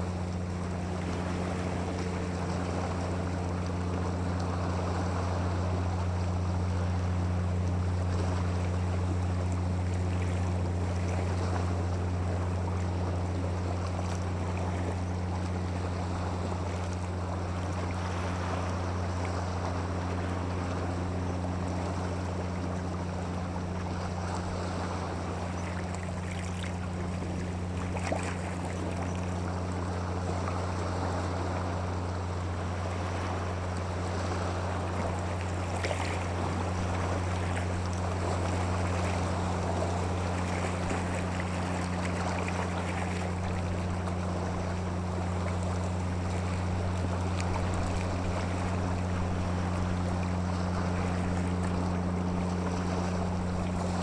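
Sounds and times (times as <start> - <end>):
low hum: 0.0 - 54.0
water rushing: 0.0 - 54.0.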